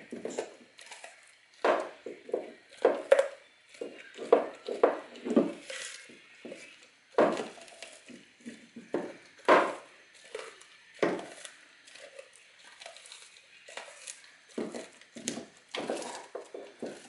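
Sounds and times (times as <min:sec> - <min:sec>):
dog crunching frozen bone: 0:00.0 - 0:17.0
dog gnawing: 0:00.0 - 0:17.0.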